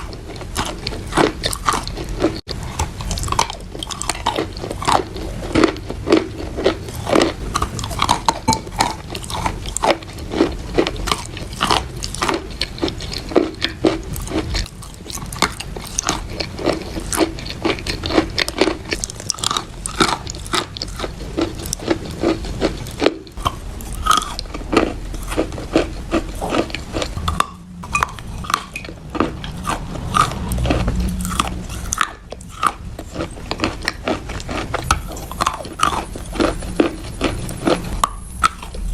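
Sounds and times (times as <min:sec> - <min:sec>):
crunching of chalk being chewed: 0:00.0 - 0:38.9.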